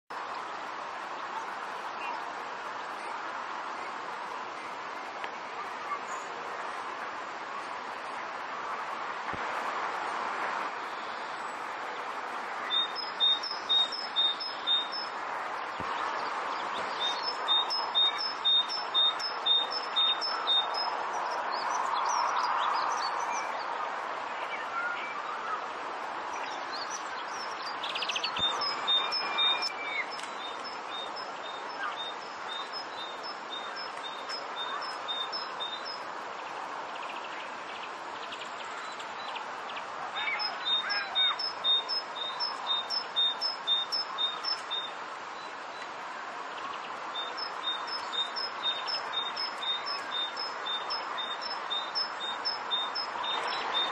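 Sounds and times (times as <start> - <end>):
steady background hiss: 0.1 - 53.9.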